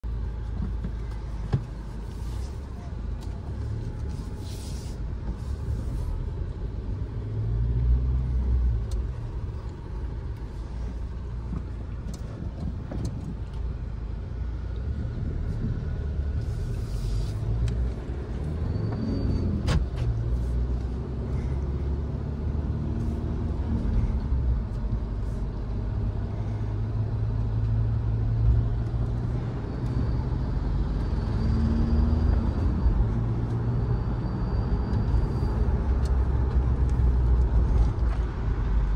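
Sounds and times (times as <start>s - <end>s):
diesel engine drone in cabin: 0.0s - 38.9s.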